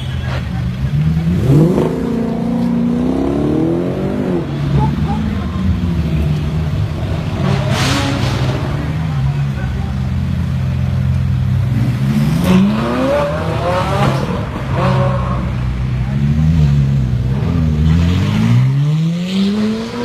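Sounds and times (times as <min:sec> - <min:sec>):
car engines idling and revving: 0:00.0 - 0:20.0.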